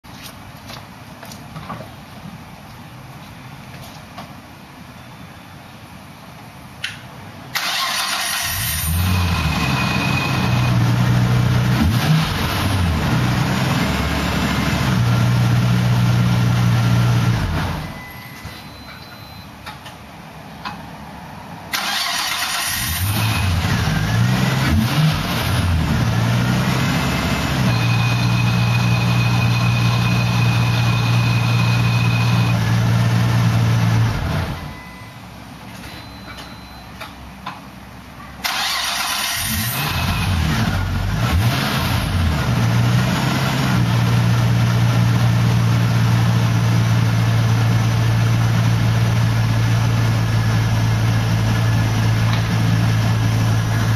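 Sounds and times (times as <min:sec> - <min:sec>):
car engine starting and idling: 0:06.6 - 0:18.8, 0:21.7 - 0:36.8, 0:37.8 - 0:53.9.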